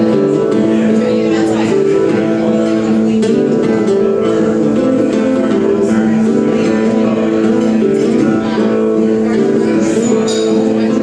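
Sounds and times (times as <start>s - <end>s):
acoustic guitars strumming: 0.0s - 11.0s.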